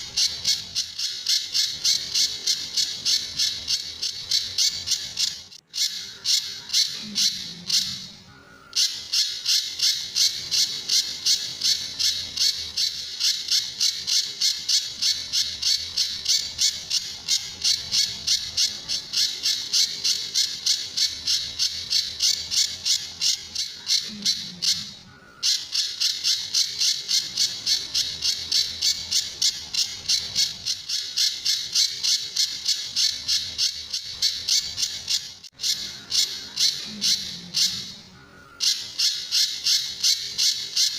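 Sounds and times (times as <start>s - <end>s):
bird calling high-pitched notes: 0.0s - 40.9s.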